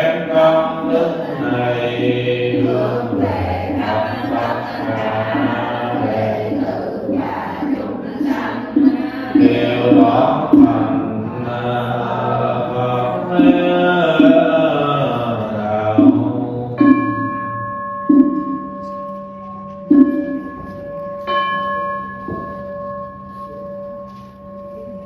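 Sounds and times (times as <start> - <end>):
chanting: 0.0 - 21.6
ceremonial bell ringing: 0.0 - 25.0.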